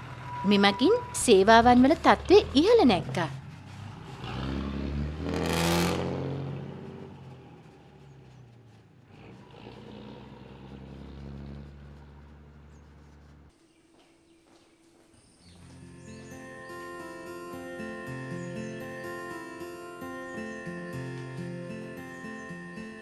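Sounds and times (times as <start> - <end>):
bus diesel engine pulling away: 0.0 - 13.5, 15.4 - 23.0.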